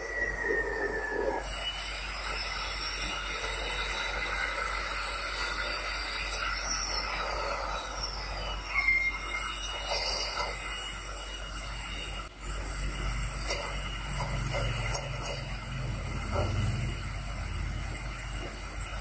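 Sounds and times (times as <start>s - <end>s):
electric rope shovel mechanical din: 0.0s - 19.0s
high whines and metallic squeals: 0.0s - 19.0s.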